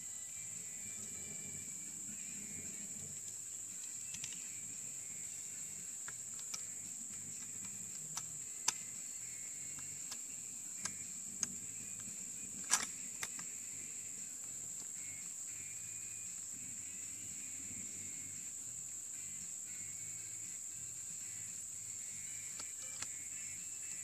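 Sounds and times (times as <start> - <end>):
crickets and insects chirping: 0.0 - 24.0.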